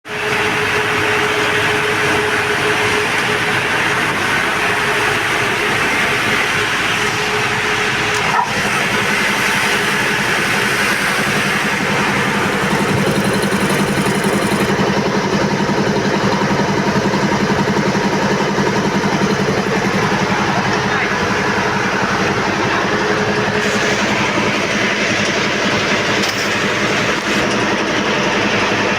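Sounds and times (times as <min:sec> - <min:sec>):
air compressor running: 0:00.1 - 0:28.9.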